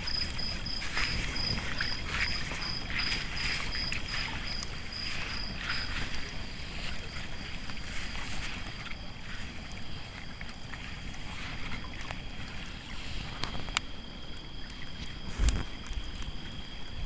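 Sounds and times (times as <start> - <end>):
campfire crackling: 0.0 - 17.0
low uneven rumble: 0.0 - 17.0
night insects droning: 0.0 - 17.0.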